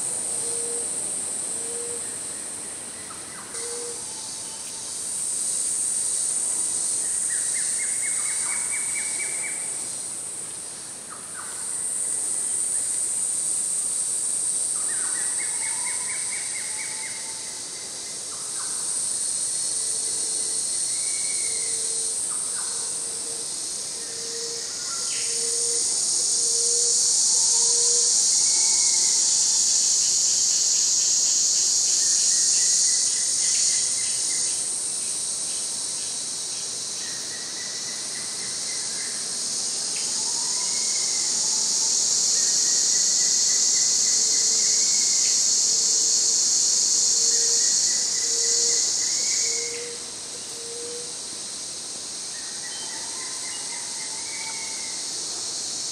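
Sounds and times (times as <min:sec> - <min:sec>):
insect chorus: 0:00.0 - 0:55.9.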